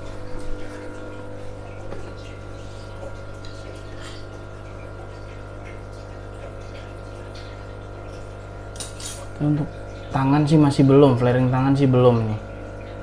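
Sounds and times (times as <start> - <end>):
air pump humming: 0.0 - 13.0
aquarium filter bubbling: 0.0 - 13.0
light ticks and splashes: 0.0 - 13.0.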